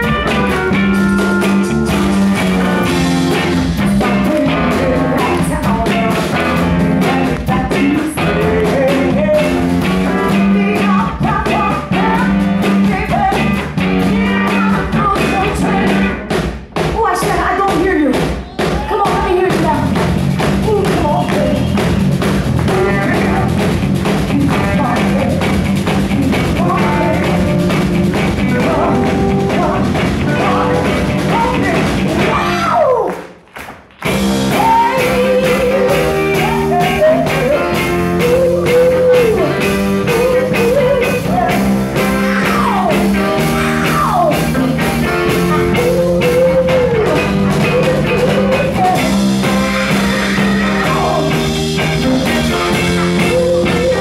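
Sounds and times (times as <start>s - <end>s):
woman singing lead: 0.0s - 16.3s, 16.9s - 21.8s, 22.6s - 33.2s, 34.4s - 54.0s
soul band playing: 0.0s - 17.6s, 18.8s - 33.0s, 34.0s - 54.0s.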